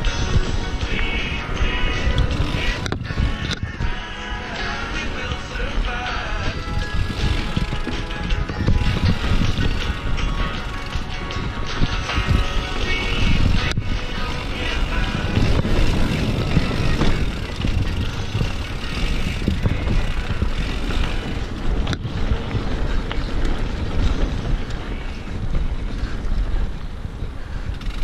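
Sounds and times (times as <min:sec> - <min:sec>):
bike rattling over trail: 0:00.0 - 0:28.0
wind rushing on microphone: 0:00.0 - 0:28.0.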